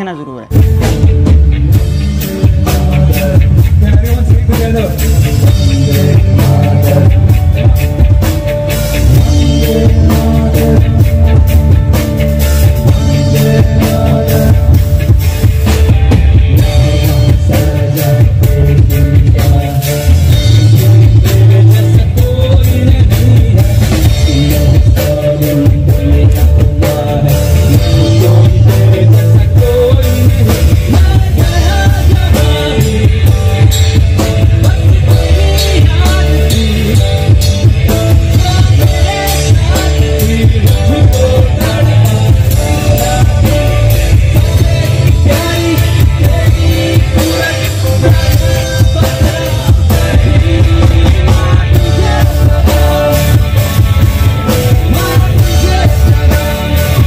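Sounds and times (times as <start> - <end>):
live band playing: 0.0 - 57.0
person singing: 1.7 - 57.0.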